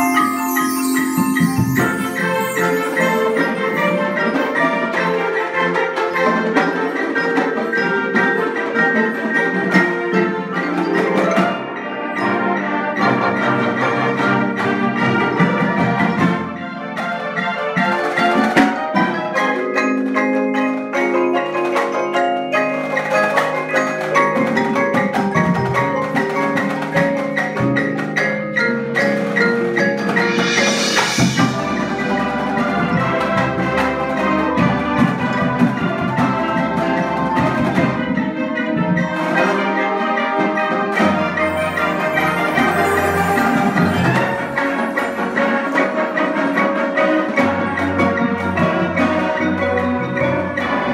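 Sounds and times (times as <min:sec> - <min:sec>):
mallet percussion runs: 0:00.0 - 0:50.9
marching band playing: 0:00.0 - 0:50.9.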